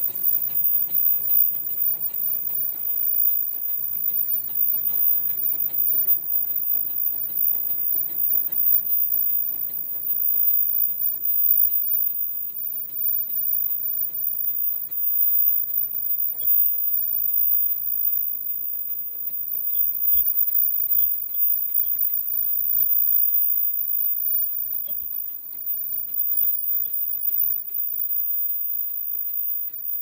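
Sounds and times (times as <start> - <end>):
rapid machine clicking: 0.0 - 30.0.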